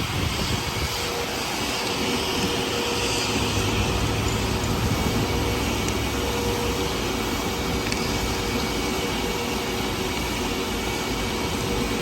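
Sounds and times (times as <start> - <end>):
car wash machinery droning: 0.0 - 12.0.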